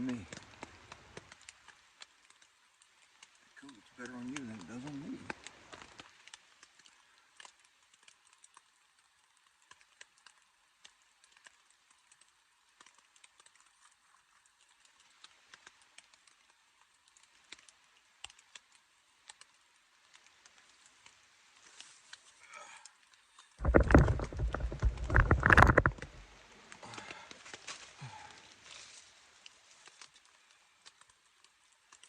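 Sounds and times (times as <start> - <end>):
faint small clicks and ticks: 0.0 - 32.0.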